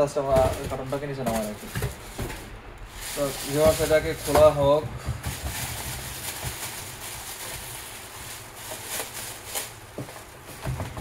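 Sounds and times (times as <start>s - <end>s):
plastic bag rustling and crinkling: 0.0s - 11.0s
steady low hum: 0.0s - 11.0s.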